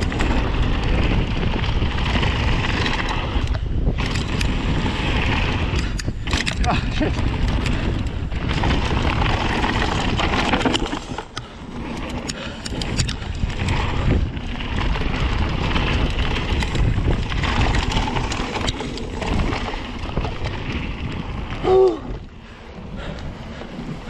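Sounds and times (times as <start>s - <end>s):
bike rattling clicks and knocks: 0.0s - 24.0s
tyre noise: 0.0s - 24.0s
wind rushing over microphone: 0.0s - 24.0s.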